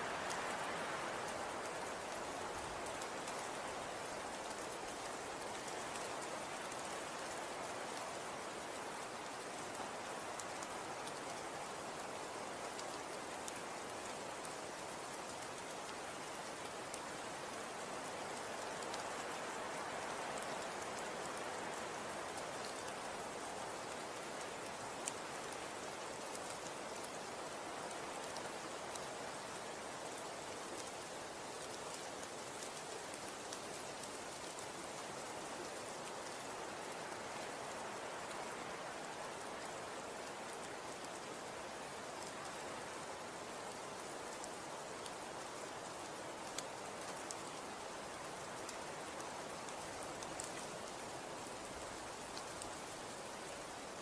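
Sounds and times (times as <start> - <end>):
snow pattering softly: 0.0 - 54.0.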